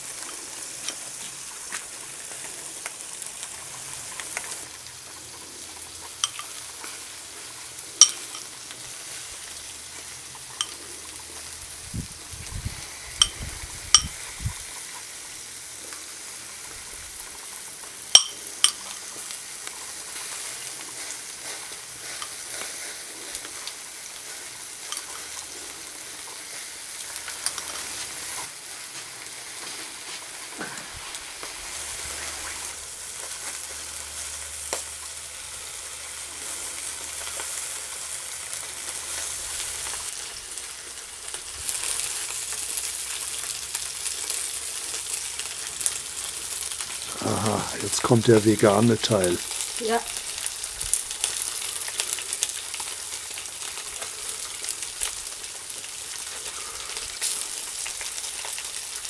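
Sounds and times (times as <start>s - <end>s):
food sizzling on a grill: 0.0s - 59.0s.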